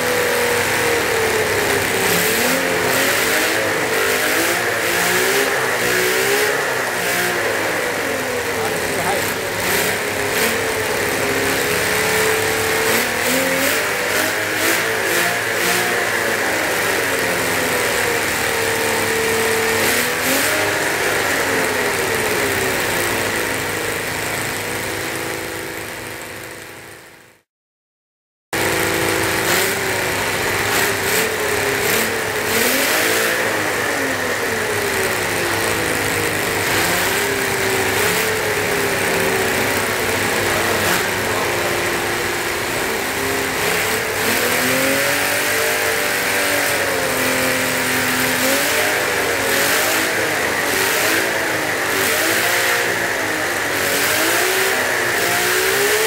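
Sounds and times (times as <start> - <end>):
model engine revving: 0.0 - 27.3, 28.6 - 56.0.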